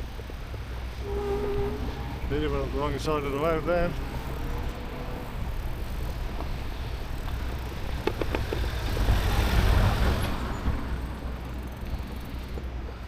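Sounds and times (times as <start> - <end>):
low traffic rumble: 0.0 - 13.0
motor vehicle passing: 0.9 - 12.6.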